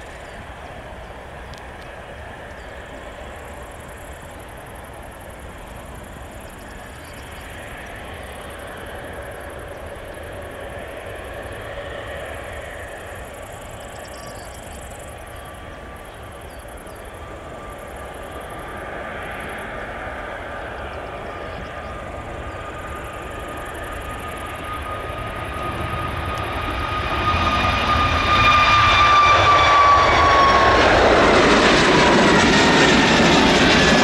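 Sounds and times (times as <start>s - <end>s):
faint steady whine: 0.0s - 30.7s
jet engines rumbling: 0.0s - 34.0s.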